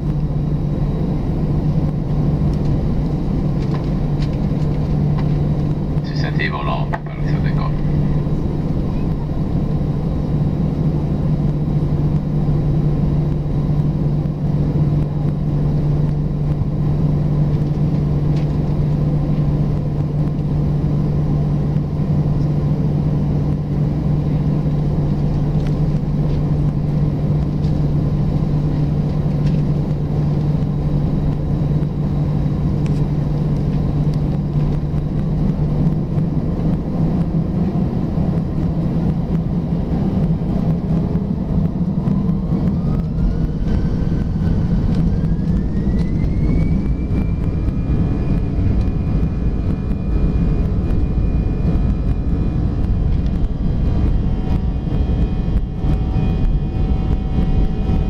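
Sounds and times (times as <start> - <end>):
jet engine cabin drone: 0.0 - 58.0.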